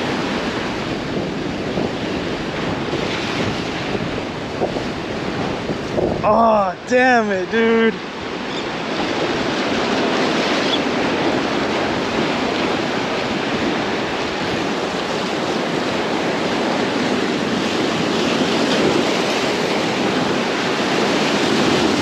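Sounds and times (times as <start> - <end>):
surf washing against rocks: 0.0 - 22.0.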